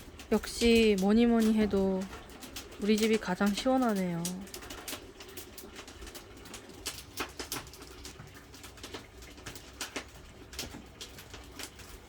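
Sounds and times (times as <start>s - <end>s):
firewood crackling and popping: 0.0s - 12.0s.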